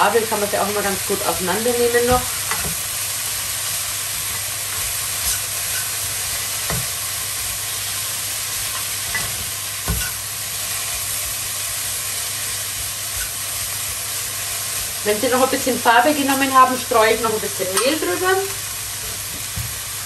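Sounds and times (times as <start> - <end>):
onions sizzling in a pan: 0.0 - 20.0.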